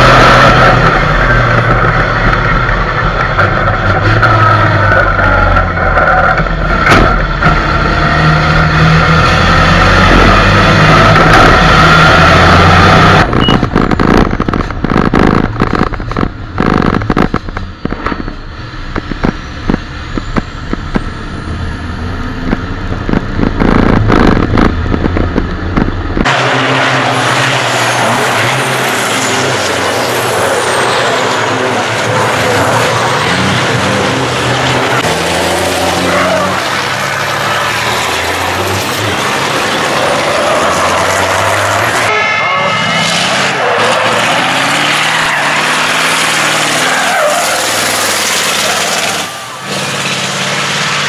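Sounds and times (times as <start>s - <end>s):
race trucks passing: 0.0s - 51.0s
truck diesel engine: 0.0s - 51.0s.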